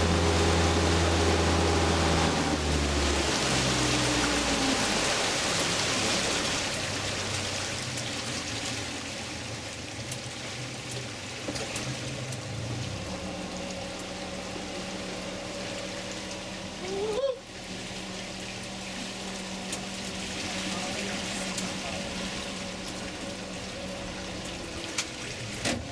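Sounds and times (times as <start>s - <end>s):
boat motor running: 0.0s - 25.9s
water splashing along hull: 0.0s - 25.9s.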